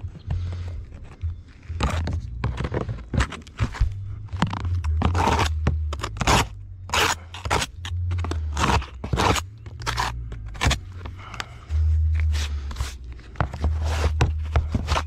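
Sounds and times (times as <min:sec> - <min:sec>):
low steady hum: 0:00.0 - 0:15.0
hand tool scraping roof: 0:00.3 - 0:11.4, 0:12.2 - 0:15.0.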